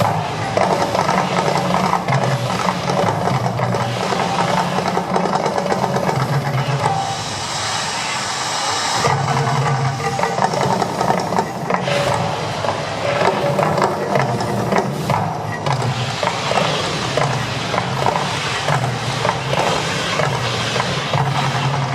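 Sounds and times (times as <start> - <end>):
crowd voices: 0.0 - 21.9
hissing rush: 0.0 - 21.9
loud rumble: 0.0 - 21.9.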